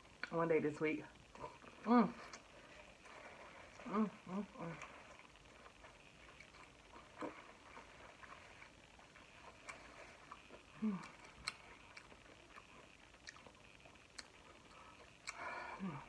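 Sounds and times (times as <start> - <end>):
chewing and mouth clicks: 1.2 - 15.6.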